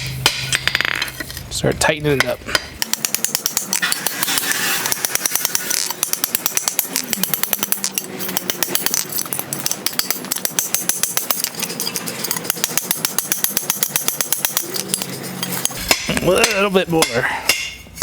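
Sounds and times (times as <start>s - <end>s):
hammer striking steel on anvil: 0.0s - 1.2s, 2.1s - 18.0s.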